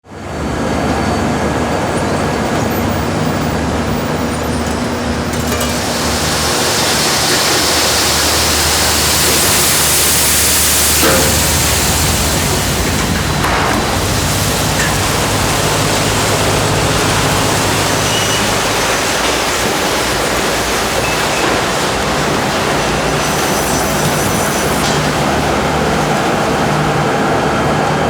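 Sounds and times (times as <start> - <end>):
factory machinery running: 0.1 - 28.0.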